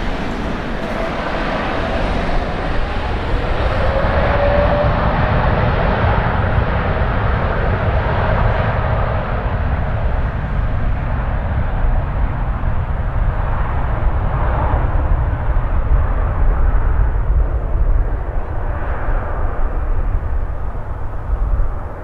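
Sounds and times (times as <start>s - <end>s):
faint engine whine: 0.0s - 22.0s
jet engines roaring: 0.0s - 22.0s.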